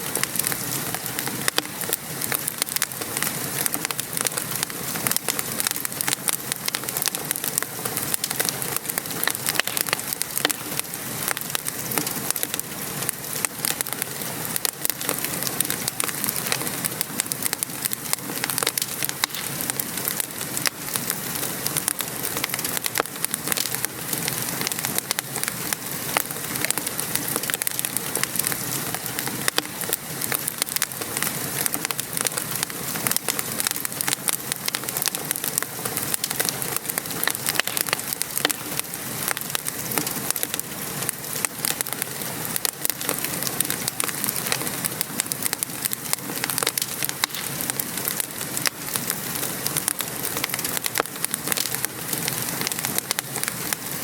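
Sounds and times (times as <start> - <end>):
rain falling: 0.0 - 54.0
wood fire crackling: 0.0 - 54.0.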